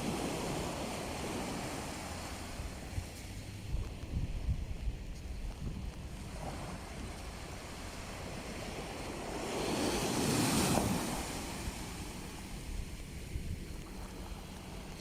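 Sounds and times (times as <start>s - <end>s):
sea waves washing onto shore: 0.0s - 4.2s, 6.0s - 15.0s
wind buffeting microphone: 0.0s - 15.0s.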